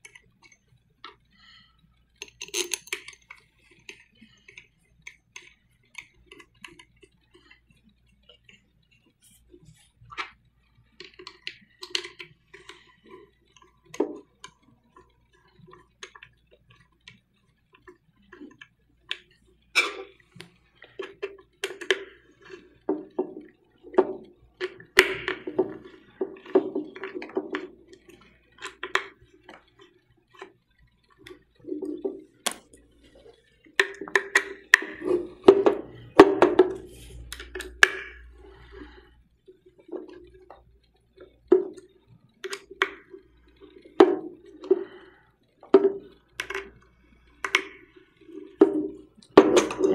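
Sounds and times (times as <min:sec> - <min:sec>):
hard plastic parts clicking and tapping: 0:02.2 - 0:07.6, 0:11.0 - 0:39.0, 0:39.7 - 0:46.8, 0:47.4 - 0:49.9.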